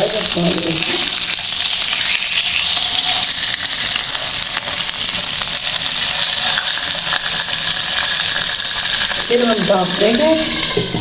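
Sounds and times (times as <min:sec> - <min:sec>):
fish being turned in a pan: 0:00.0 - 0:11.0
fish sizzling in a frying pan: 0:00.0 - 0:11.0.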